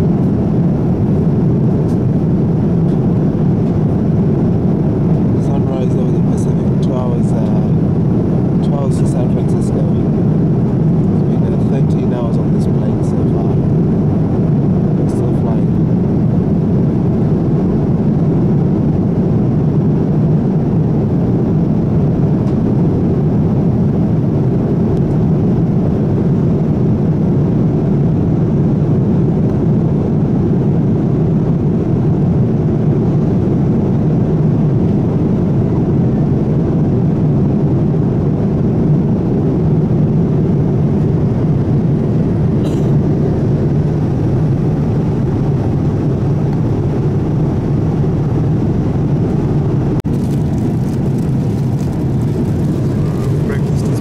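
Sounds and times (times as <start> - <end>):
jet engine and airflow noise: 0.0 - 54.0.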